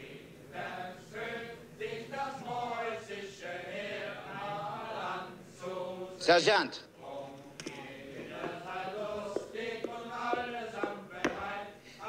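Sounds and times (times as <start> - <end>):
men singing together: 0.0 - 6.2, 6.9 - 12.0.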